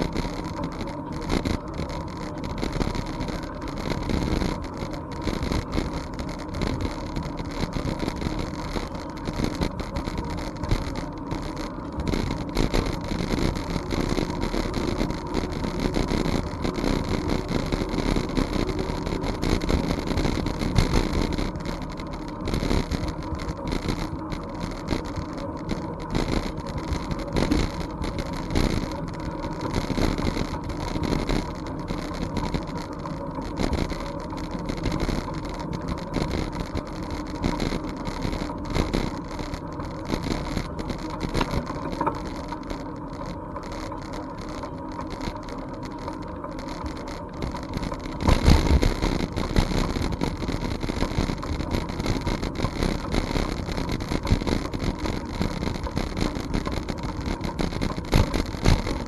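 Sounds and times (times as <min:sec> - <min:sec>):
bicycle rumbling along trail: 0:00.0 - 0:59.0.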